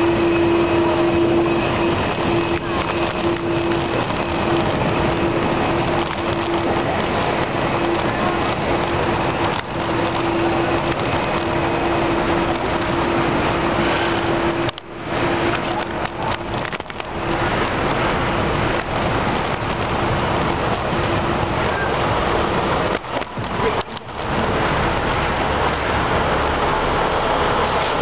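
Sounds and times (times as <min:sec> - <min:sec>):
steady mid-pitched hum: 0:00.0 - 0:25.4
car traffic: 0:00.0 - 0:28.0
wind and road noise: 0:00.0 - 0:28.0.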